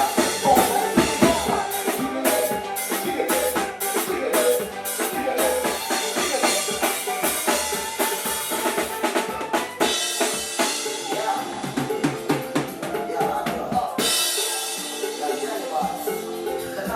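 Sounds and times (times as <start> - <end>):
snare and bass drum hits: 0.0 - 14.9
live band playing: 0.0 - 16.9.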